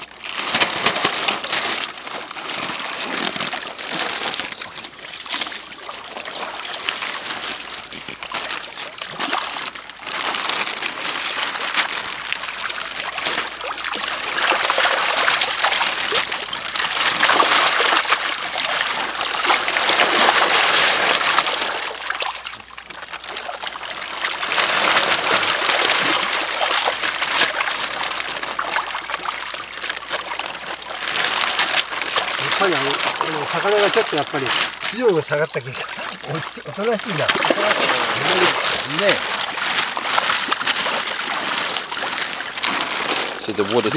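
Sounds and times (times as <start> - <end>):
pond water splashing: 0.0 - 43.9.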